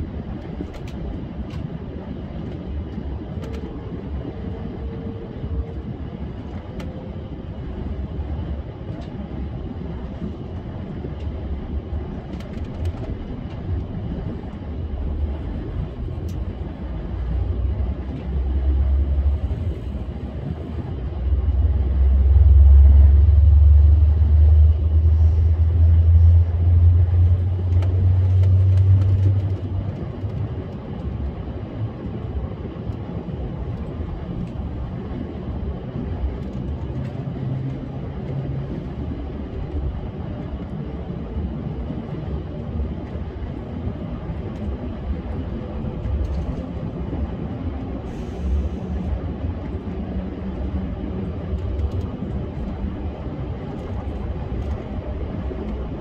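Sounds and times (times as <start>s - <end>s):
high-speed train rumble: 0.0s - 56.0s.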